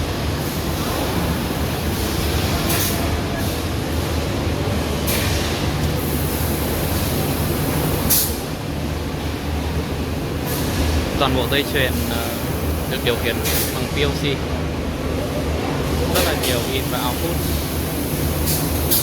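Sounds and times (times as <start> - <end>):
machine hum and rumble: 0.0 - 19.0.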